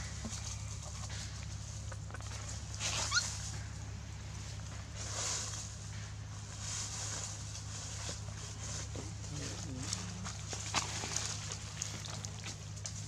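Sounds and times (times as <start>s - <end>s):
dry leaves rustling underfoot: 0.0s - 13.0s
steady low hum: 0.0s - 13.0s.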